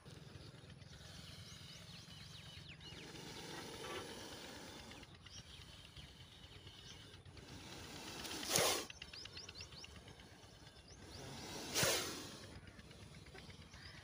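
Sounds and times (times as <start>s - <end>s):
steady low rumble: 0.0s - 14.0s
small bird chirps: 0.4s - 14.0s.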